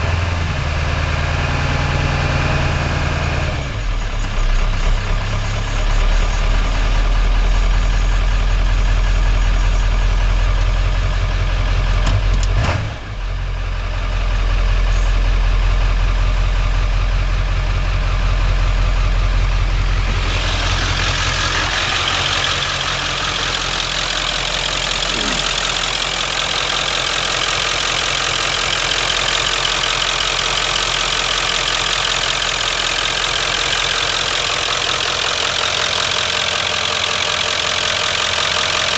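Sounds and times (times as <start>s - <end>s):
diesel engine idling roughly: 0.0s - 38.9s.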